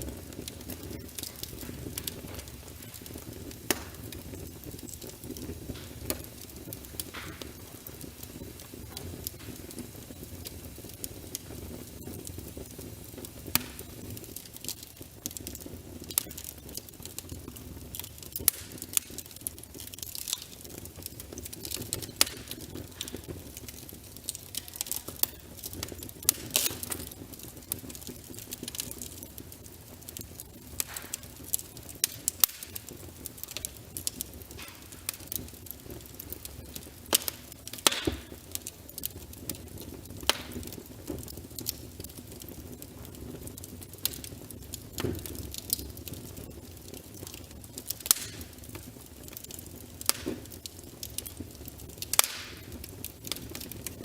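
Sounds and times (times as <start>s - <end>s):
fire rumbling in fireplace: 0.0s - 54.0s
logs crackling and popping: 0.0s - 54.0s.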